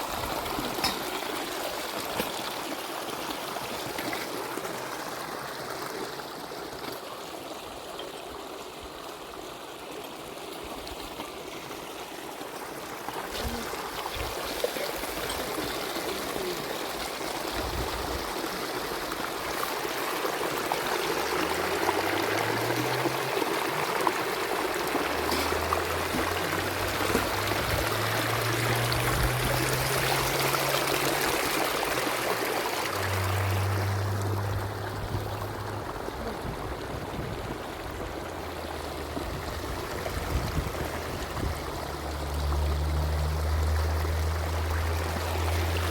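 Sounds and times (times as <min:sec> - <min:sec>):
spring water trickling: 0:00.0 - 0:45.9.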